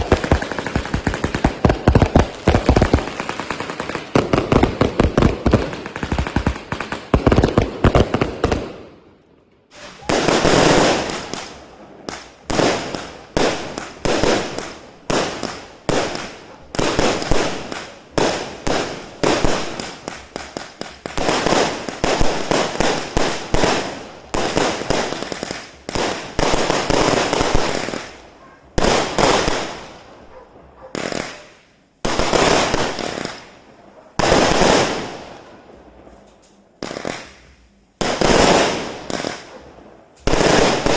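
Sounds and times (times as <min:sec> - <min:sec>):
fireworks shots and cracks: 0:00.0 - 0:09.1, 0:09.7 - 0:40.9.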